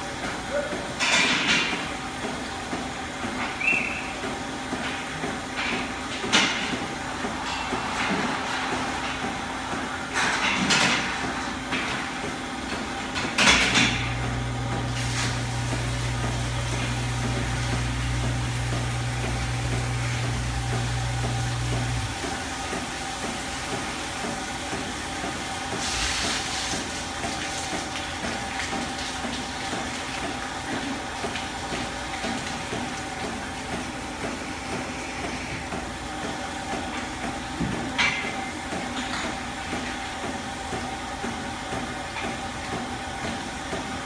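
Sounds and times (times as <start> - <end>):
milking machinery running: 0.0 - 44.0
pump motor running: 0.0 - 44.0.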